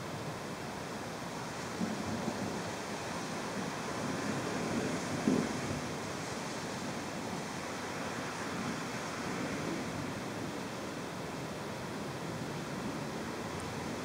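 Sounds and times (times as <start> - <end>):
heavy rain downpour: 0.0 - 14.0
wind: 0.0 - 14.0.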